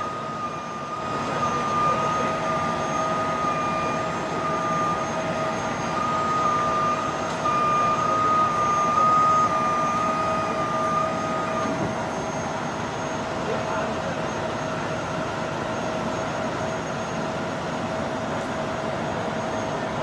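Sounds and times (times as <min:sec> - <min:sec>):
diesel engine running under load: 0:00.0 - 0:20.0
high machinery whine: 0:00.0 - 0:20.0.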